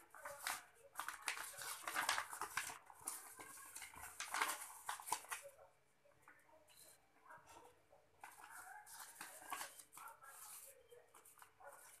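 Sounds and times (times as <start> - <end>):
paper rustling and crinkling: 0.0 - 6.4, 8.2 - 12.0.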